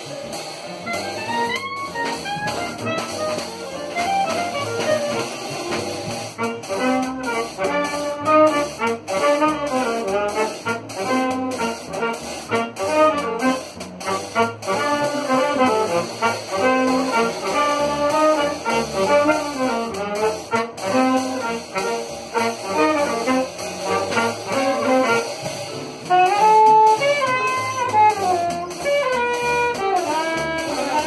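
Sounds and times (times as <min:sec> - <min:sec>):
drums: 0:00.0 - 0:31.0
saxophones: 0:00.0 - 0:31.0
trumpet: 0:00.0 - 0:31.0
upright bass: 0:00.0 - 0:31.0.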